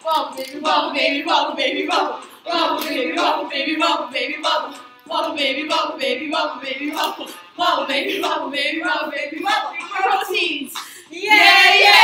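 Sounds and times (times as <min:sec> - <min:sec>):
women singing unaccompanied: 0:00.0 - 0:12.0.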